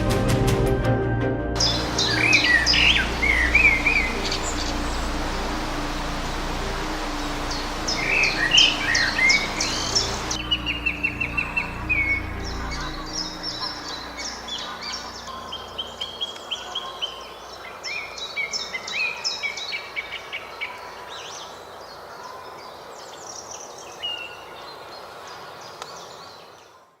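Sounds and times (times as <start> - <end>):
songbirds chirping: 1.6 - 27.0.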